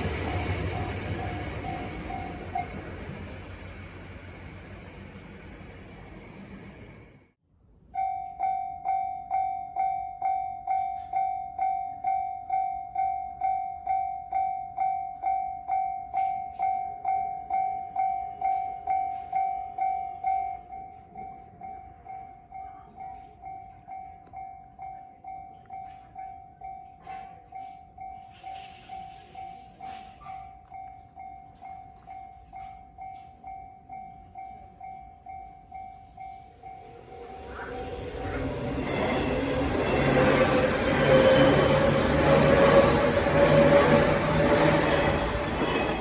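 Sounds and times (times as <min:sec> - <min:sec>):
level-crossing alarm bell: 0:00.0 - 0:04.6, 0:08.0 - 0:46.0.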